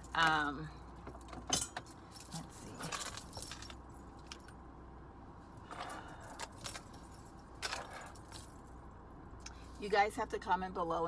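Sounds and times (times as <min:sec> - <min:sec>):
small clinks and rattles: 0:00.0 - 0:04.8, 0:05.5 - 0:09.9
low hum in car: 0:00.0 - 0:11.0.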